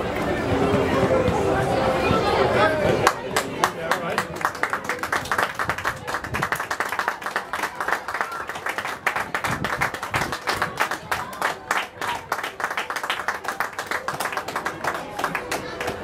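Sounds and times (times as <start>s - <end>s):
crowd clapping: 3.0s - 16.0s.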